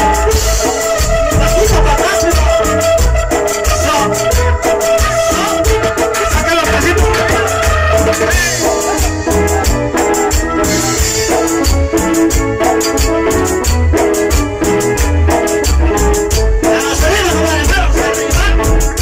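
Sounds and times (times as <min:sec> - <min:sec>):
live cumbia dance band: 0:00.0 - 0:19.0.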